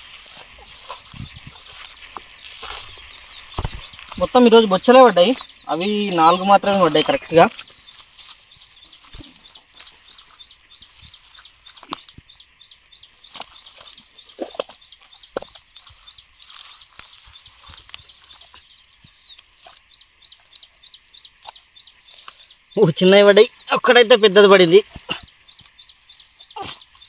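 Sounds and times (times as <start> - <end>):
high-pitched chirping: 0.8 - 23.9.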